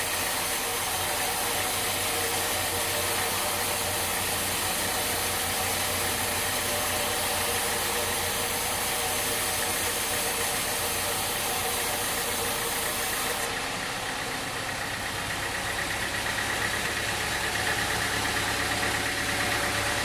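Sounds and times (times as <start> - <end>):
engine running: 0.0 - 20.0
heavy machine noise: 0.0 - 20.0.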